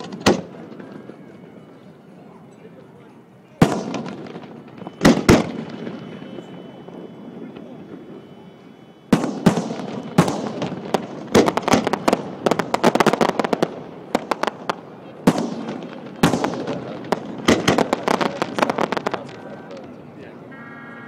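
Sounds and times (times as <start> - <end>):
firework shells booming: 0.0 - 1.7, 3.6 - 8.3, 9.1 - 20.0.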